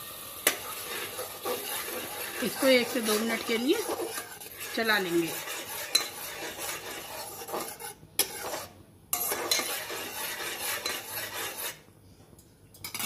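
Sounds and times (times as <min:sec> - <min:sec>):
metal spoon scraping a pot: 0:00.4 - 0:11.8.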